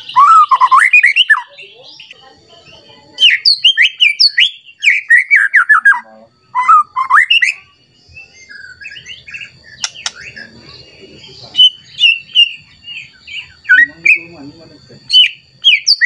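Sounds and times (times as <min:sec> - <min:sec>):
bird singing whistled notes: 0:00.0 - 0:16.0.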